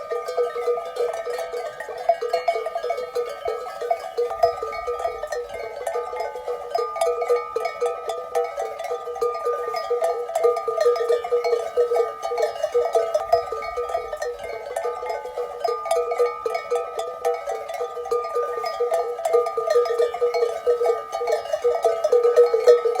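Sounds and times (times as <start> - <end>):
livestock bells clanking: 0.0 - 23.0.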